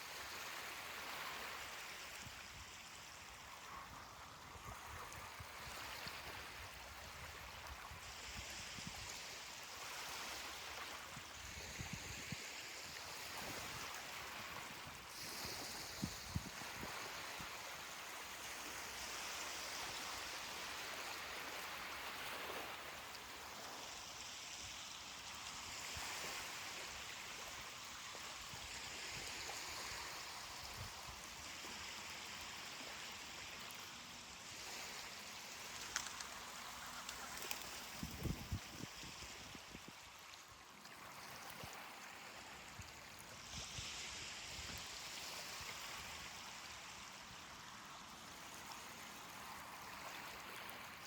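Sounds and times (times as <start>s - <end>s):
ocean waves washing on beach: 0.0s - 51.0s.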